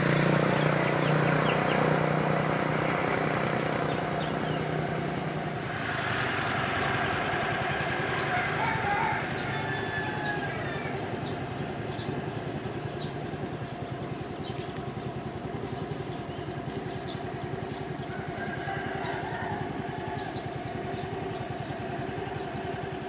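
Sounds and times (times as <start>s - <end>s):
motorbike engine idling: 0.0s - 23.0s.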